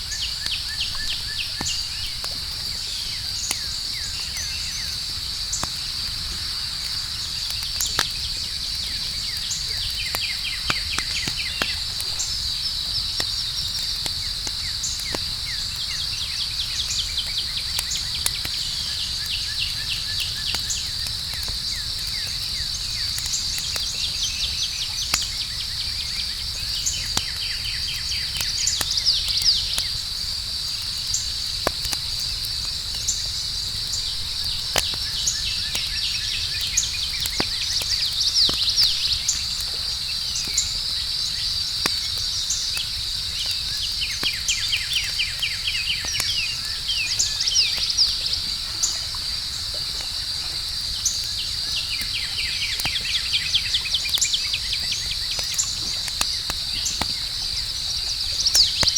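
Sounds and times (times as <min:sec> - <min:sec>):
campfire crackling and popping: 0:00.0 - 0:58.9
crickets chirping: 0:00.0 - 0:58.9.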